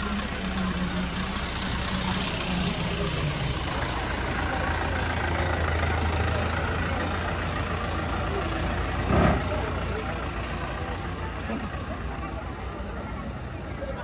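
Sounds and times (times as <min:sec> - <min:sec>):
constant background noise: 0:00.0 - 0:14.0
vehicle engine idling: 0:00.0 - 0:14.0.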